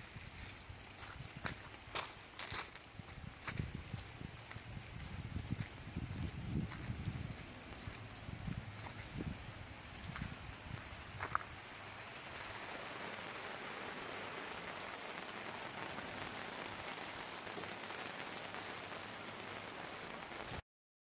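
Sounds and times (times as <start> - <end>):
steady rain: 0.0 - 20.6.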